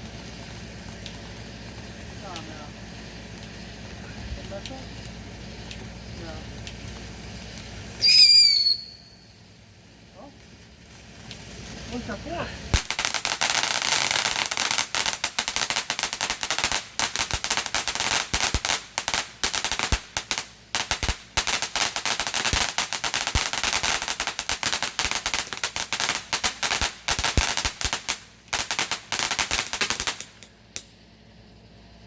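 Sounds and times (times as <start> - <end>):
firecrackers popping rapidly: 0.0 - 32.0.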